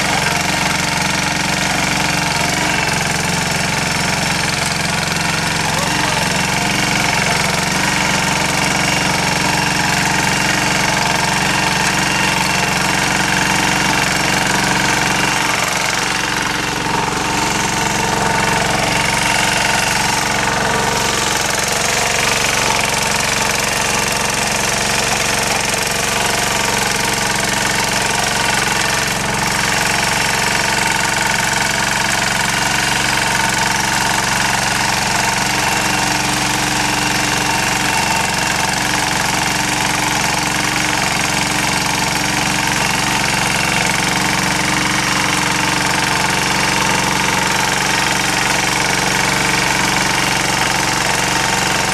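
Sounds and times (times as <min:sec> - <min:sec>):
rotary tiller digging soil: 0:00.0 - 0:51.9.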